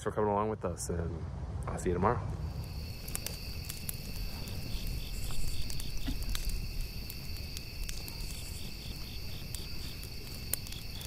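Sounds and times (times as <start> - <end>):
low rumble: 0.2 - 11.0
insects chirping: 1.8 - 11.0.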